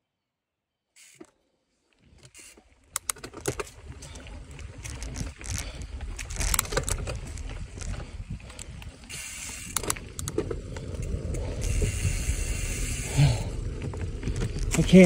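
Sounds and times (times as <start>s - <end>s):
bike tyres rumbling on dirt: 2.0s - 15.0s
bike chain and frame rattling: 2.2s - 15.0s.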